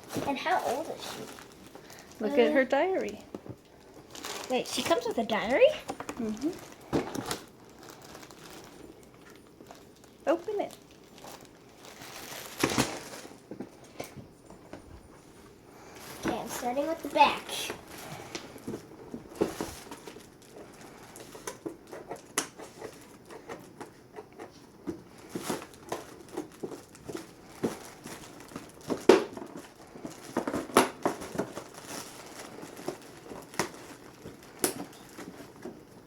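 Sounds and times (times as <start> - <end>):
packaging crinkling: 0.0 - 14.1, 15.1 - 24.1, 25.1 - 36.0.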